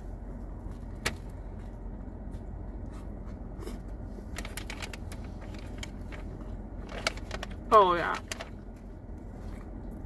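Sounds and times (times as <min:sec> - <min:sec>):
car air conditioning hum: 0:00.0 - 0:10.0.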